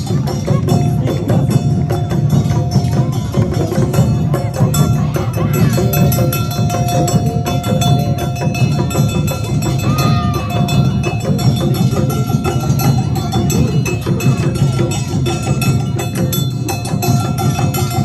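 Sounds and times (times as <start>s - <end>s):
drum beats: 0.0s - 18.0s
hand gongs clanging: 0.0s - 18.0s.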